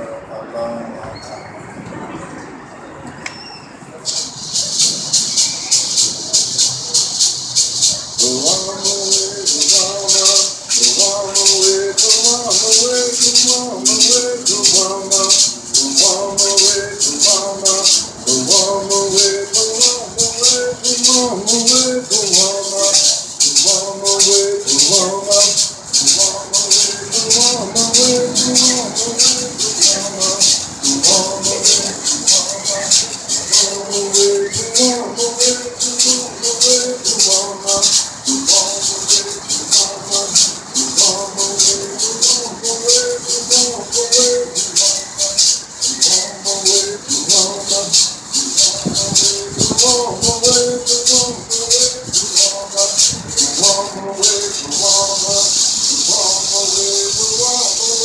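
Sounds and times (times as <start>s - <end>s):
gourd rattle shaking: 4.0s - 58.0s
men singing a chant: 8.2s - 58.0s.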